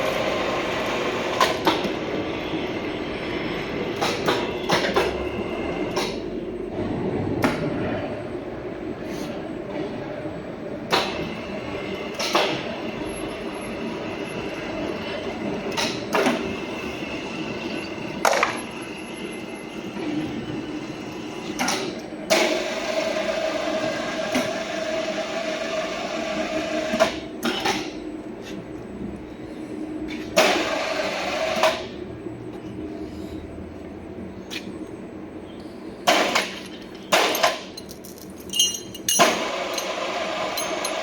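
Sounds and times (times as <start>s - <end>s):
workshop hum: 0.0s - 41.0s.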